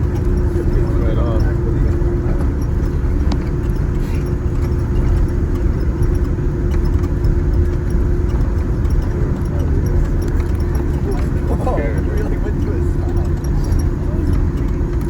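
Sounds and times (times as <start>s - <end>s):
constant hum: 0.0s - 15.0s
low rumble of engines and wheels: 0.0s - 15.0s.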